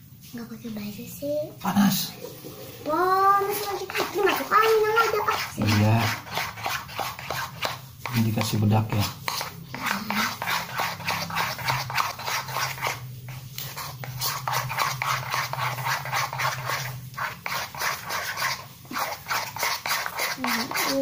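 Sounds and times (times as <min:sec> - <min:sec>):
metal spoon scraping ceramic bowl: 0:03.5 - 0:21.0.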